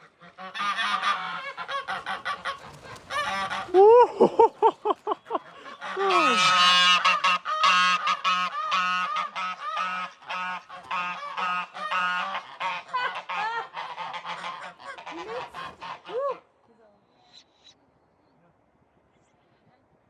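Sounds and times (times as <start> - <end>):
geese honking: 0.0 - 16.2.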